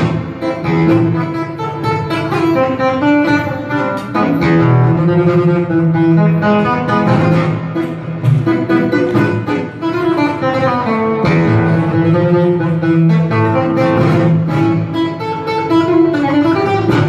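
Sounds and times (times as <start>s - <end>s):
solo classical guitar tango: 0.0s - 17.0s.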